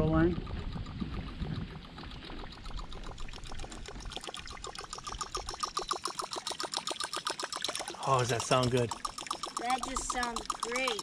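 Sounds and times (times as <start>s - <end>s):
lure blade churning water: 0.0s - 11.0s.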